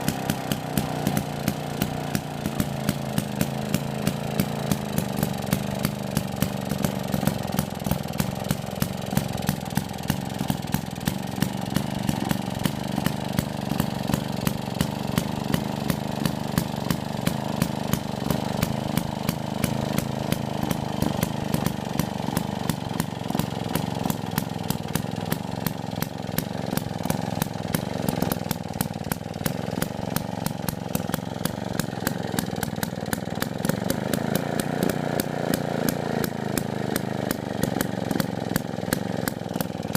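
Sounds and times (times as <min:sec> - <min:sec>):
stationary engine running: 0:00.0 - 0:39.9.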